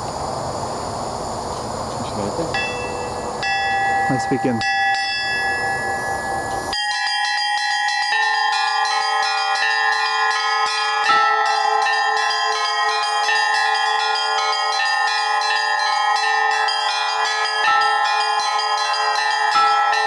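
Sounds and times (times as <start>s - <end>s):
church bells chiming rapidly: 2.2s - 20.0s
heavy bell stroke: 2.5s - 20.0s.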